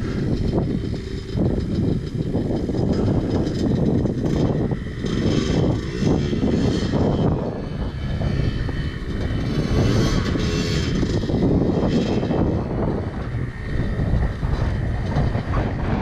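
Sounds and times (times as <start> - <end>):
motorcycle engine running loudly: 0.0 - 16.0.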